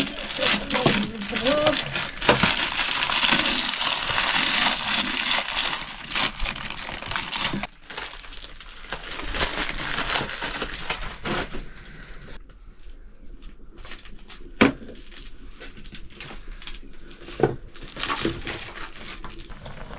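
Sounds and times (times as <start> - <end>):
dry crunching and crackling: 0.0 - 12.0, 12.8 - 19.9.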